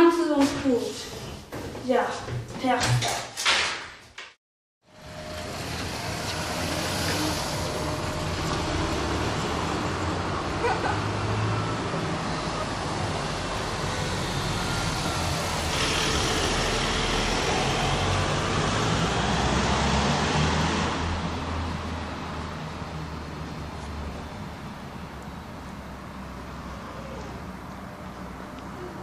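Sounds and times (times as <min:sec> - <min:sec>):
van engine hum: 0:04.9 - 0:29.0.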